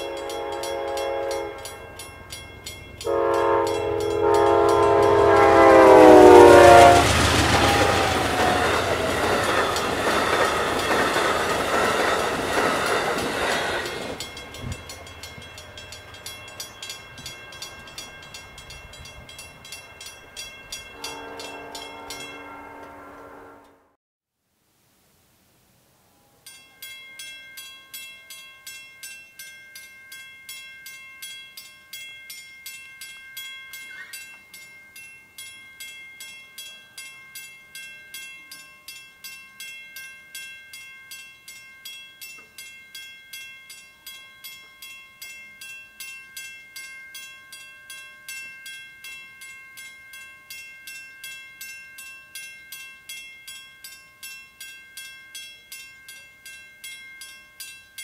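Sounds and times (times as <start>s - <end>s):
crossing warning bell ringing: 0.0s - 23.9s, 26.5s - 58.0s.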